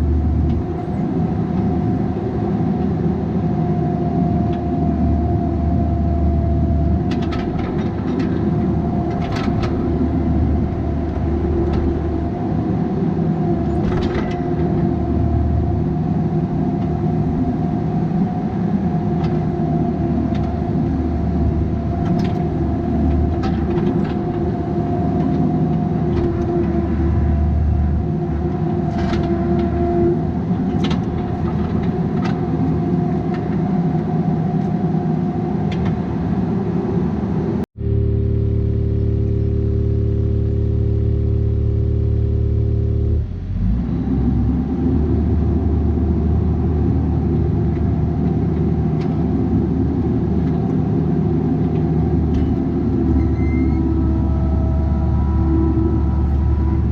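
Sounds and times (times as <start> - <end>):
constant whine: 0.0 - 56.9
diesel engine running: 0.0 - 56.9.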